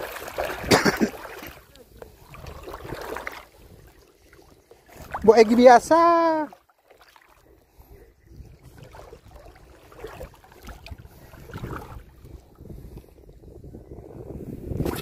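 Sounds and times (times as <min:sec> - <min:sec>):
small waves lapping at shoreline: 0:00.0 - 0:13.2.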